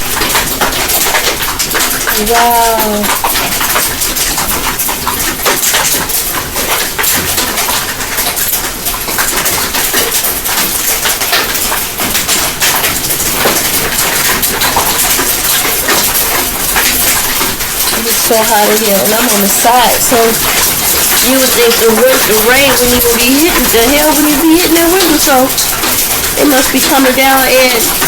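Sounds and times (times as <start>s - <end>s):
hail pelting a car: 0.0s - 28.0s.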